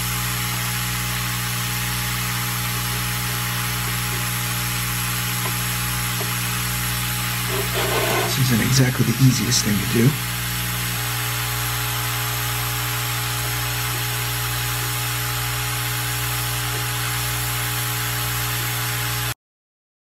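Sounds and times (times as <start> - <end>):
low motor hum: 0.0 - 9.0, 10.2 - 17.6
hot air station blowing: 0.0 - 19.2.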